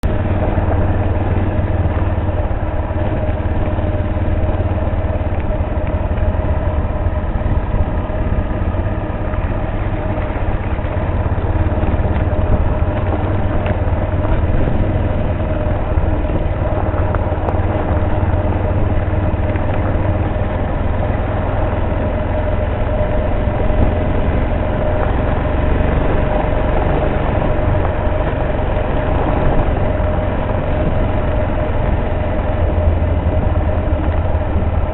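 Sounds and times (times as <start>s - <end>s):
motorcycle engine rumbling: 0.0s - 34.9s.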